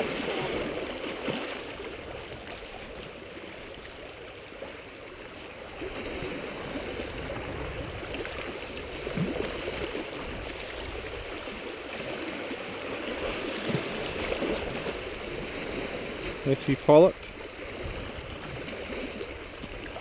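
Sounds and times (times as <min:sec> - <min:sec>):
sea water lapping against rocks: 0:00.0 - 0:20.0.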